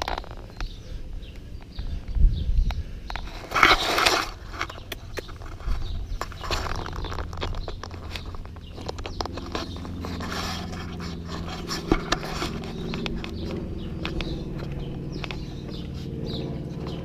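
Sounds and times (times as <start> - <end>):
low mechanical drone: 0.0 - 17.0
footsteps on asphalt: 3.1 - 17.0.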